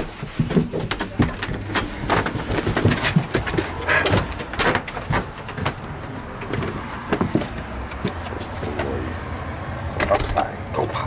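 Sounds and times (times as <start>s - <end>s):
footsteps on wooden deck: 0.0s - 9.2s.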